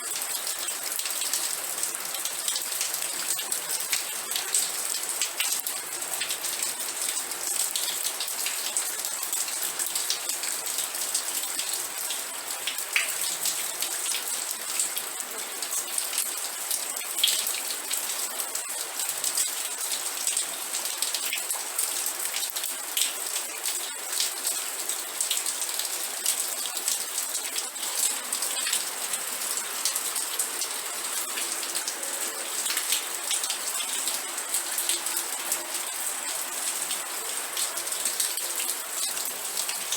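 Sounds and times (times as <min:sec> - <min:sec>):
steady rain drops: 0:00.0 - 0:39.9.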